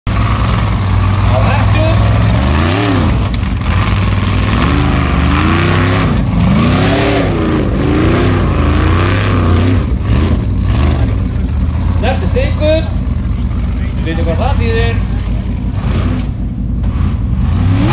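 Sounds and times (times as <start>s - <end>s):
buggy engine revving hard: 0.1s - 17.9s.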